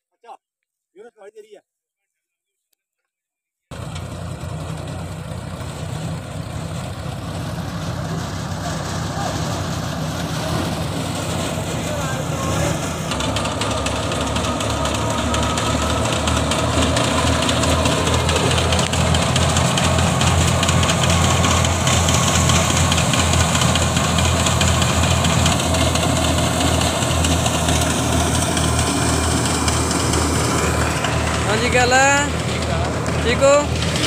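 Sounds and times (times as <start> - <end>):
threshing machine rushing: 3.7 - 34.0
tractor engine humming: 3.7 - 34.0.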